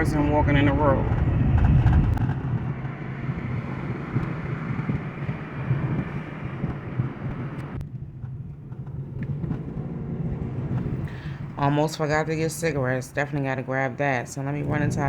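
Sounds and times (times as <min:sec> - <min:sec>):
car engine and road hum: 0:00.0 - 0:13.5.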